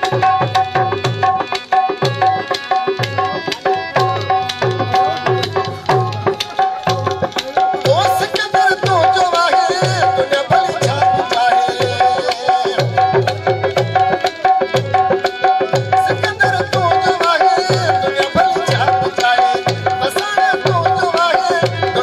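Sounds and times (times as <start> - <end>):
hand drum rhythm: 0.0 - 22.0
harmonium melody over drone: 0.0 - 22.0.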